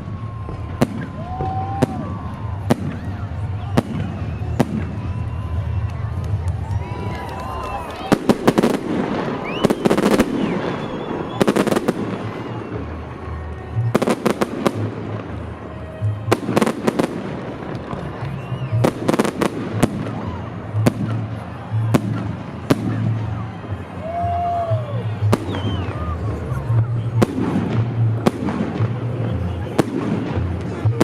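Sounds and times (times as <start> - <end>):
fireworks bursting with sharp bangs: 0.0 - 23.6, 25.1 - 31.0
fireworks crackling: 0.0 - 31.0.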